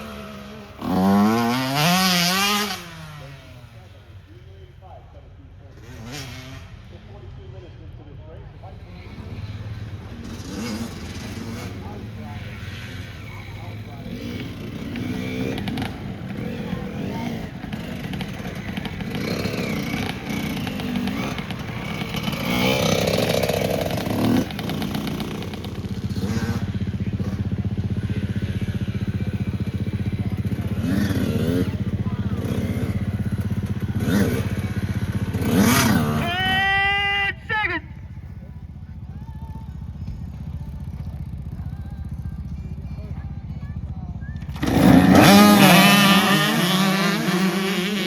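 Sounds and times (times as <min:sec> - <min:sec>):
motocross bike engines: 0:00.0 - 0:48.0
voices calling out: 0:08.6 - 0:48.0.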